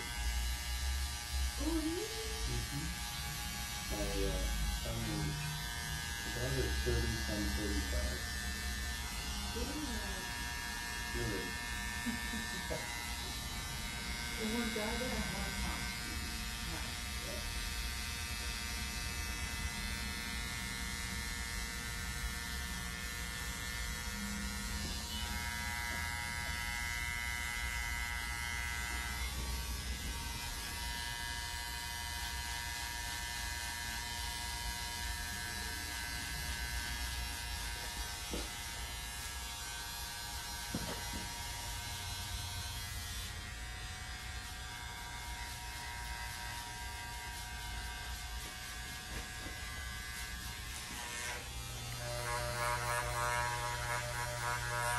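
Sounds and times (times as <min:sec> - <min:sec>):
electric hair clippers buzzing: 0:00.0 - 0:54.9.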